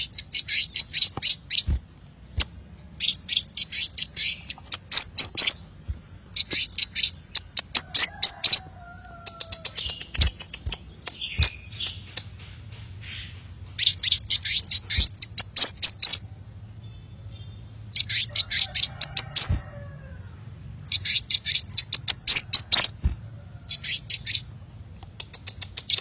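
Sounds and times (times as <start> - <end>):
sunbird chirping: 0.0 - 26.0.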